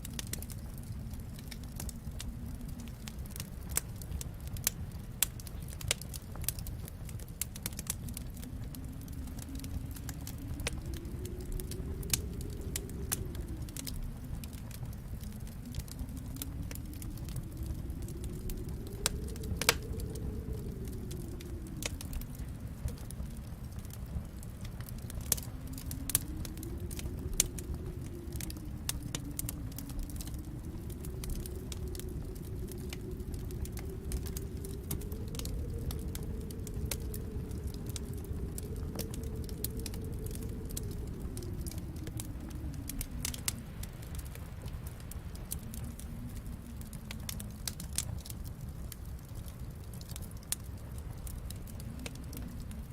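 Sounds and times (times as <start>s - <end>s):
storm wind howling: 0.0s - 52.9s
wood fire crackling and popping: 0.0s - 52.9s.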